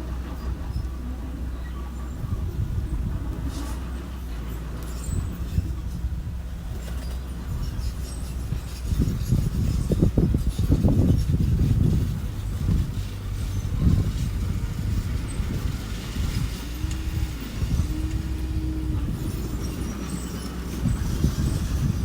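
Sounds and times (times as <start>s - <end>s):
construction machine engine rumbling: 0.0s - 22.0s.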